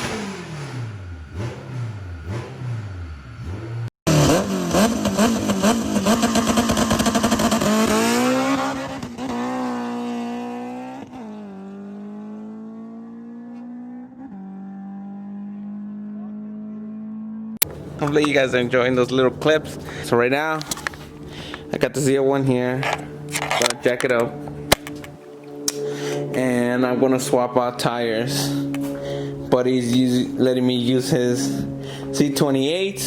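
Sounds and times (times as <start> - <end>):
car engine accelerating and revving: 0.0 - 18.0, 20.9 - 33.0.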